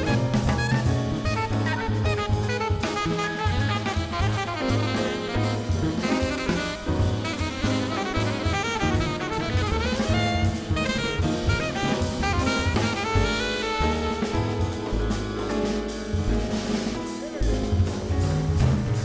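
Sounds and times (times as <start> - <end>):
bass line: 0.0 - 19.0
drum kit with cymbals: 0.0 - 19.0
horn melody: 0.0 - 19.0.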